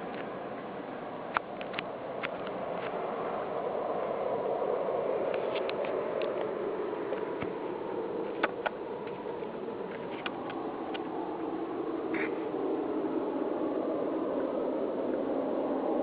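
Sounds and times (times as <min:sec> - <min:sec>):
low roaring drone: 0:00.0 - 0:16.0.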